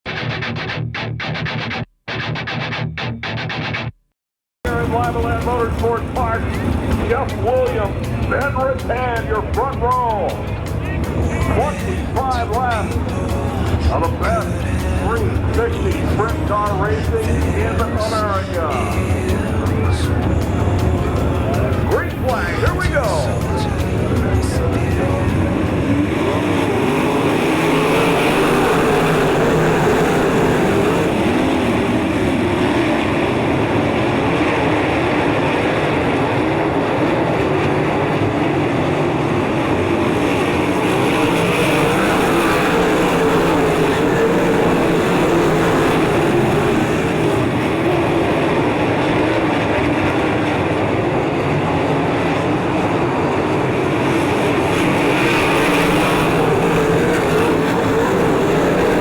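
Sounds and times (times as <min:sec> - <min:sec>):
racing car engines droning: 0:04.7 - 0:59.0.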